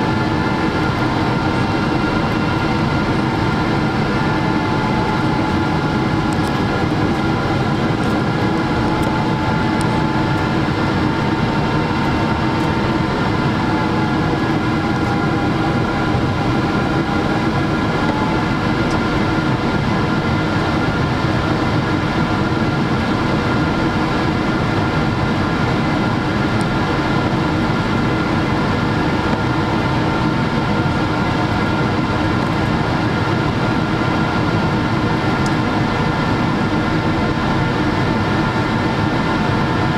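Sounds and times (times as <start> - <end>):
airplane cabin airflow and engine noise: 0.0 - 39.9
steady hums: 0.0 - 39.9.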